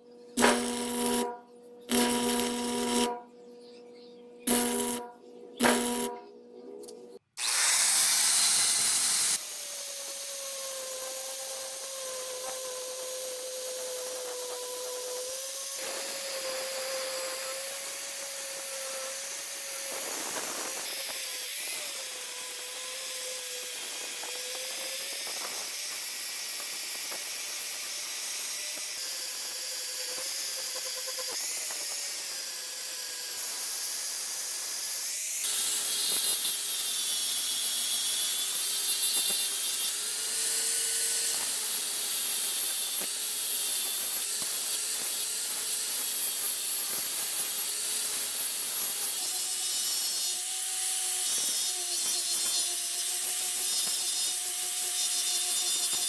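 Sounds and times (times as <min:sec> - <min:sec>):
angle grinder grinding metal: 0:00.0 - 0:56.0.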